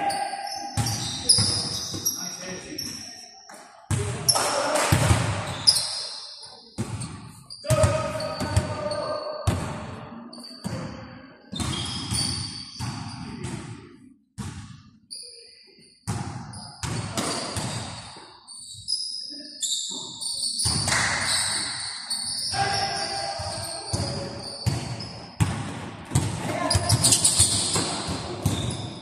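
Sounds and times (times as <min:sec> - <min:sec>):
sneakers squeaking: 0:00.0 - 0:04.5, 0:05.3 - 0:13.8, 0:14.4 - 0:29.0.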